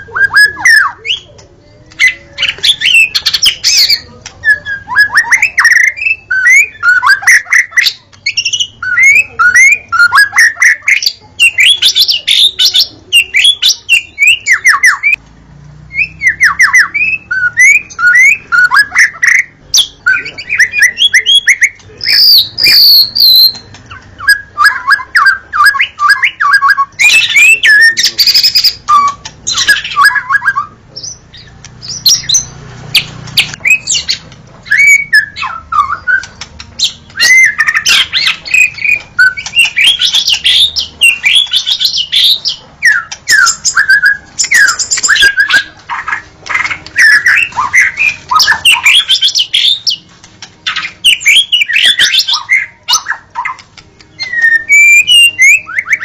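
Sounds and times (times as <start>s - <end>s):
bird singing whistled notes: 2.0s - 15.2s, 15.9s - 50.0s, 50.6s - 56.0s.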